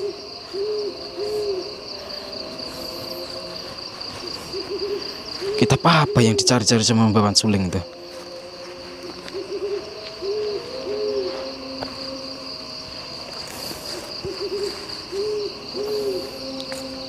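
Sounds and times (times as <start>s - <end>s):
bird hooting: 0.0s - 7.4s, 8.1s - 17.0s
insect chirring: 0.0s - 17.0s.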